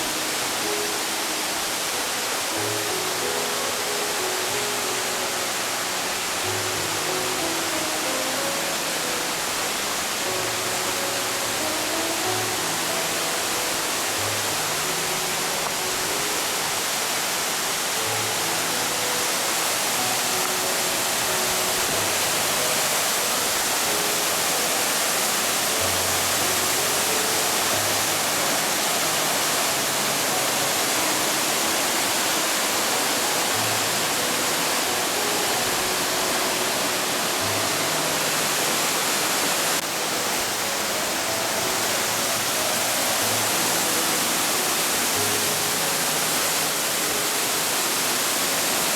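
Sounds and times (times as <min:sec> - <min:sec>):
soft background music: 0:00.0 - 0:48.9
waterfall rushing: 0:00.0 - 0:48.9.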